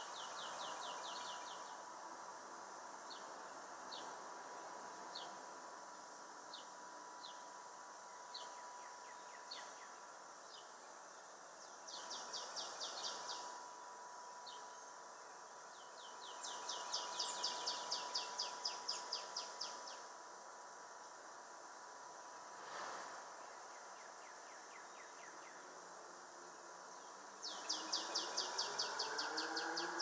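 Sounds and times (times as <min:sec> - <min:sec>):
songbirds calling: 0:00.0 - 0:01.9, 0:03.0 - 0:04.2, 0:05.1 - 0:21.1, 0:23.3 - 0:26.0, 0:26.6 - 0:30.0
faint steady hum: 0:00.0 - 0:30.0.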